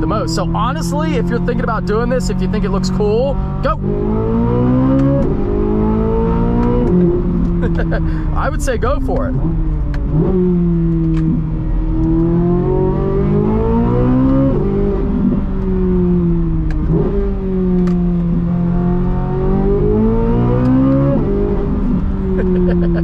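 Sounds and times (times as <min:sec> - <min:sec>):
sports car engine through gear changes: 0:00.0 - 0:23.0.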